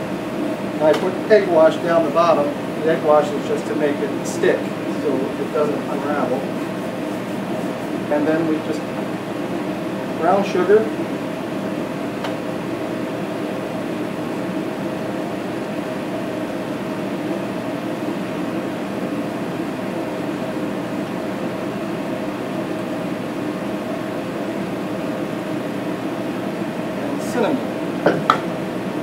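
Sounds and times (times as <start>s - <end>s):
mechanical hum of bakery equipment: 0.0s - 29.0s.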